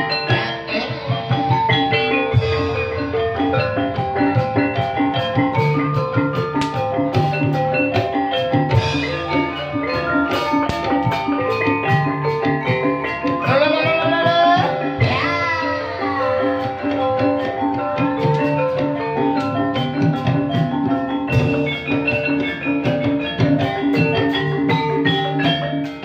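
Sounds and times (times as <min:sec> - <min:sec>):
drums: 0:00.0 - 0:26.0
metallophones playing melody: 0:00.0 - 0:26.0.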